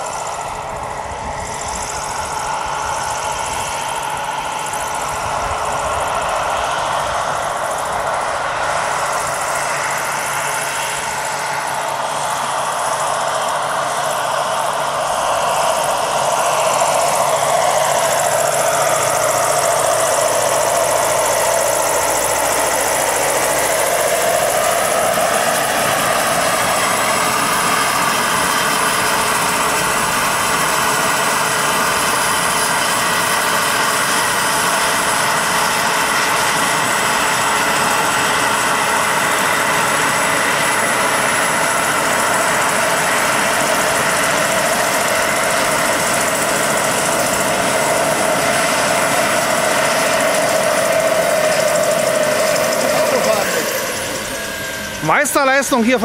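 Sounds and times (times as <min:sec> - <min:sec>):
model helicopter turbine whine: 0:00.0 - 0:56.0.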